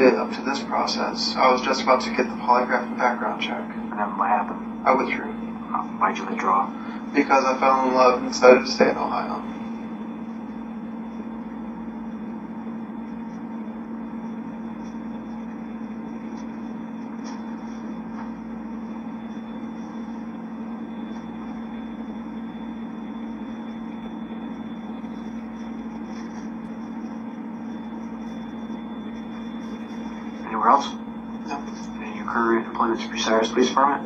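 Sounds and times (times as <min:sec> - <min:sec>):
room hum: 0:00.0 - 0:34.0.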